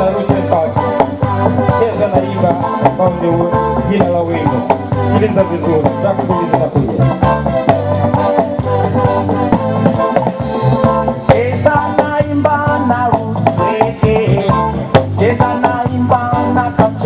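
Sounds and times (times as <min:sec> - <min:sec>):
person singing: 0:00.0 - 0:17.0
reggae band playing: 0:00.0 - 0:17.0.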